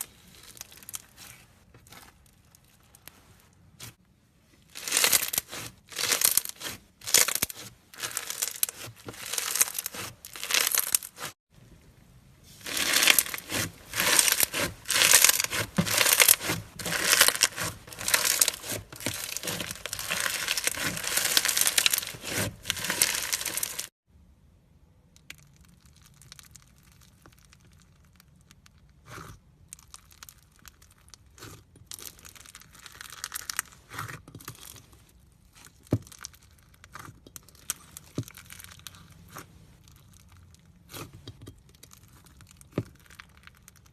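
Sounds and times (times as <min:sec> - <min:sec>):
slime crackling and popping: 0:04.7 - 0:11.4, 0:12.6 - 0:23.9, 0:25.2 - 0:34.9, 0:35.5 - 0:43.9.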